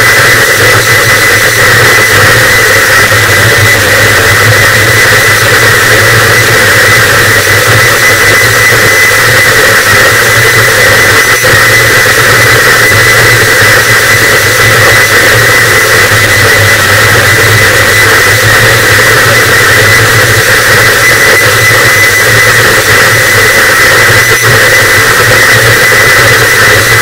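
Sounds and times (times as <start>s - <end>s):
distorted static noise: 0.0s - 27.0s.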